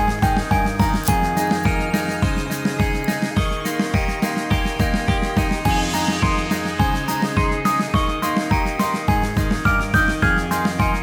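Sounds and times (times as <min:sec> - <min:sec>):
upbeat guitar and drum music: 0:00.0 - 0:11.0.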